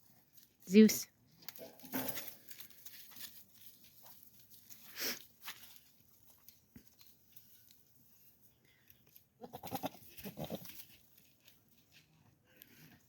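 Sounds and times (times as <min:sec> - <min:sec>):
rustling and crunching: 0:00.0 - 0:13.0.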